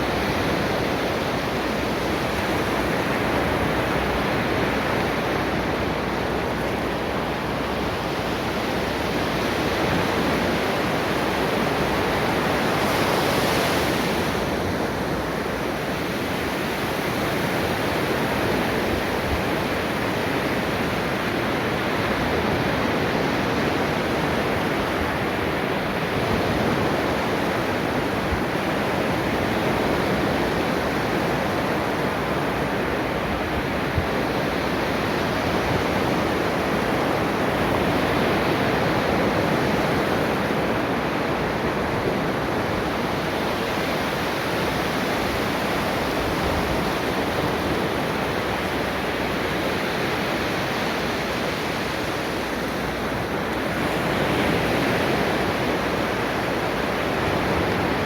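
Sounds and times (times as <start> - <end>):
ocean waves washing onto shore: 0.0 - 58.0.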